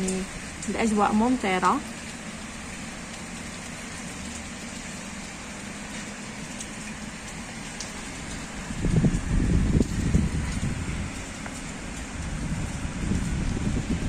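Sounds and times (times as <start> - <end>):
raindrops ticking: 0.0 - 14.0
steady rain hiss: 0.0 - 14.0.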